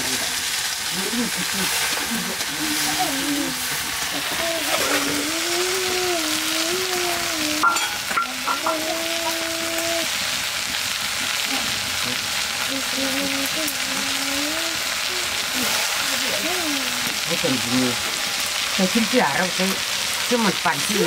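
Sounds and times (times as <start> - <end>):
greens sizzling in a pan: 0.0 - 21.0.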